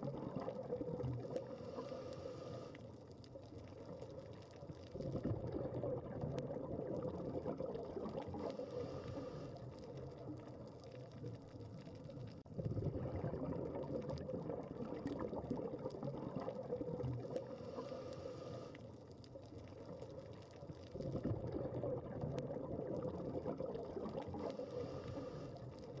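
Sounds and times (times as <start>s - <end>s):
scuba diver exhaled bubbles gurgling: 0.0s - 26.0s.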